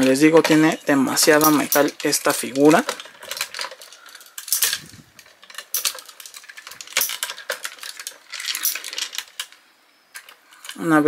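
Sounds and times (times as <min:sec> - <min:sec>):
figure parts clicking and knocking: 0:00.0 - 0:10.8.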